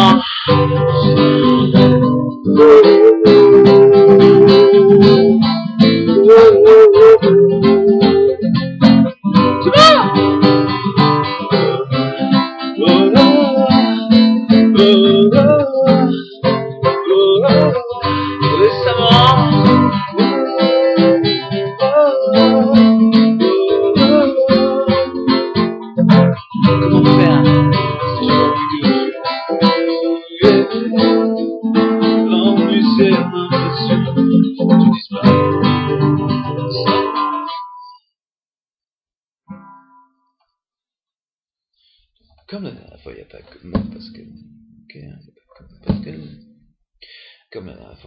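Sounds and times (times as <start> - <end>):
strummed acoustic guitar: 0.0 - 37.9, 43.6 - 46.7.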